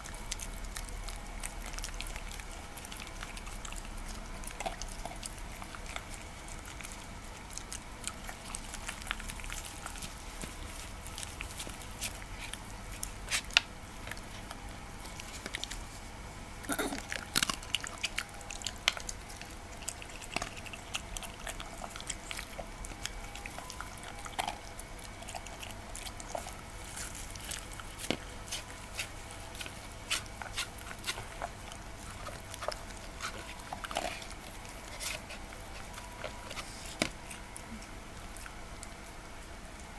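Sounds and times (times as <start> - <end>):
dog chewing and licking food: 0.0 - 39.9.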